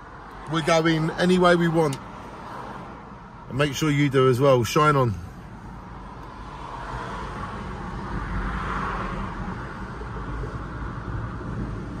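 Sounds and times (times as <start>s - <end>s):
car engine rumble: 0.0s - 12.0s
passing traffic: 0.0s - 12.0s
road noise inside car: 0.0s - 12.0s.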